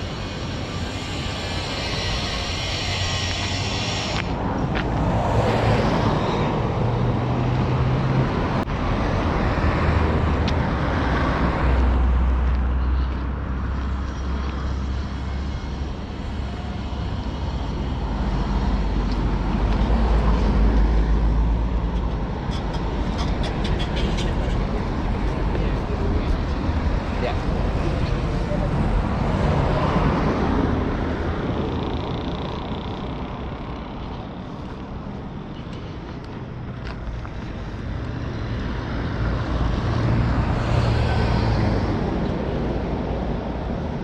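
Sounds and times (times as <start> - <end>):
low traffic rumble: 0.0 - 44.0
vehicles passing: 0.0 - 44.0.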